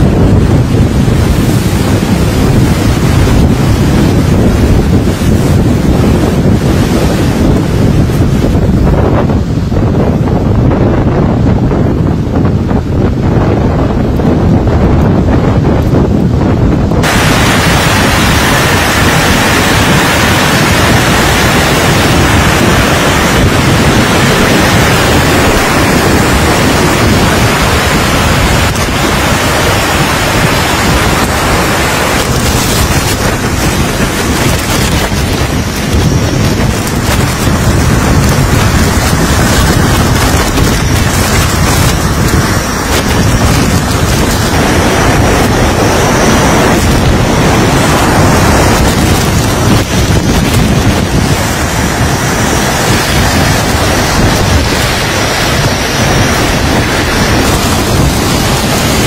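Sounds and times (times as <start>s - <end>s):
driving rain: 0.0s - 59.0s
strong wind: 0.0s - 59.0s
wind buffeting microphone: 0.0s - 59.0s.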